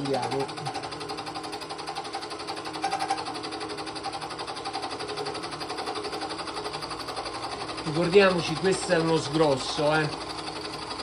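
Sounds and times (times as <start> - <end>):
milling machine whirring: 0.0 - 11.0.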